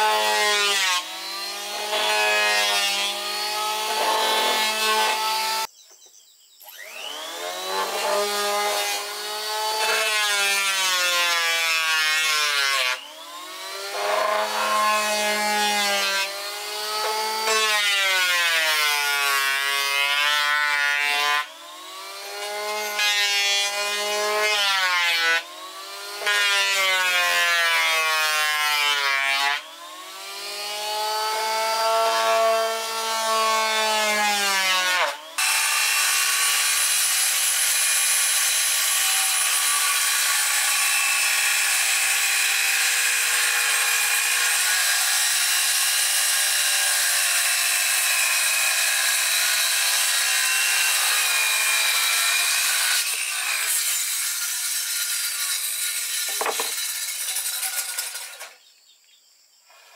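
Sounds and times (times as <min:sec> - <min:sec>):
electric planer shaving wood: 0:00.0 - 0:05.7, 0:06.7 - 0:58.6.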